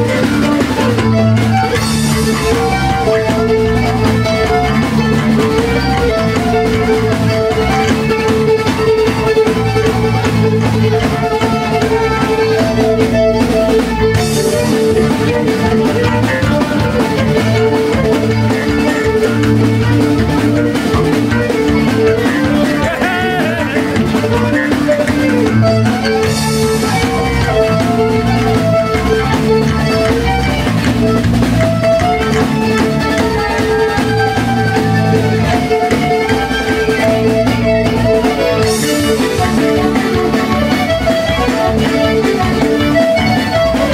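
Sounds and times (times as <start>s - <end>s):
accordion: 0.0s - 43.9s
drum kit: 0.0s - 43.9s
electric bass guitar: 0.0s - 43.9s
fiddle melody: 0.0s - 43.9s.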